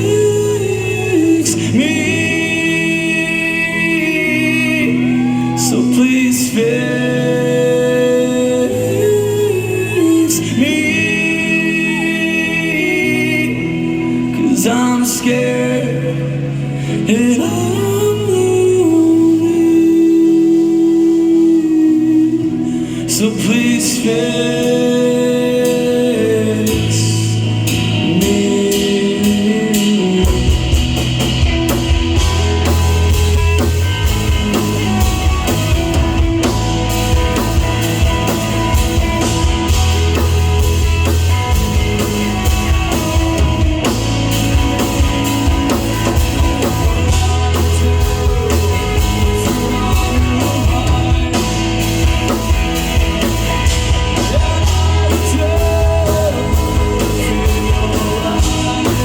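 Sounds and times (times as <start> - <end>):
drums and bass: 0.0 - 59.0
live rock band playing: 0.0 - 59.0
person singing: 0.0 - 59.0.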